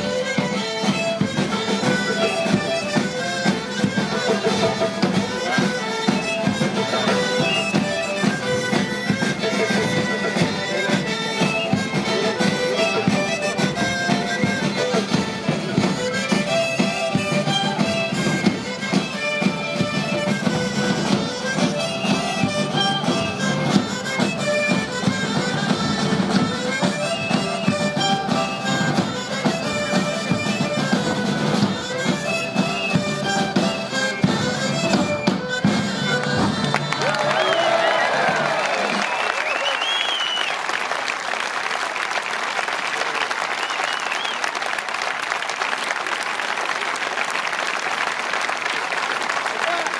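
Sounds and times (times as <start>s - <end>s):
reedy wind instruments melody: 0.0s - 41.0s.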